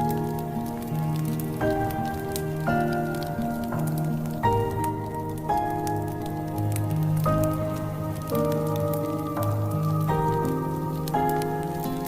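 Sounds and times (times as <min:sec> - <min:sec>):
calm instrumental music: 0:00.0 - 0:12.0
log fire crackling: 0:00.0 - 0:12.0.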